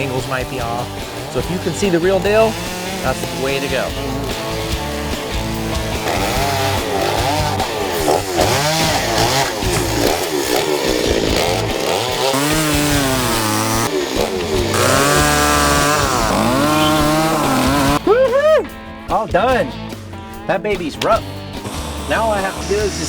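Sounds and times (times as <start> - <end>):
chainsaw revving cutting wood: 0.0 - 18.0, 21.6 - 23.0.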